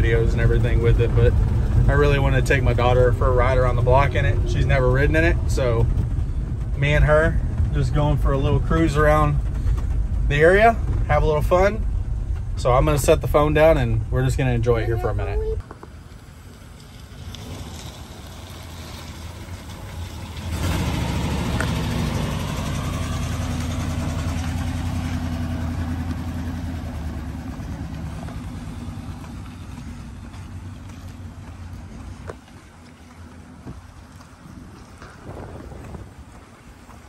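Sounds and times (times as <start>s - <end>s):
pickup truck driving past: 0.0s - 11.1s, 16.3s - 37.0s.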